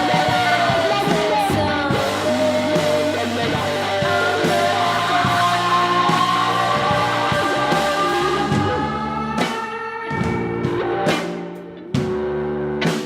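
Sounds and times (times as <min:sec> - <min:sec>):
person singing: 0:00.0 - 0:11.0
rock guitar and beat: 0:00.0 - 0:13.0.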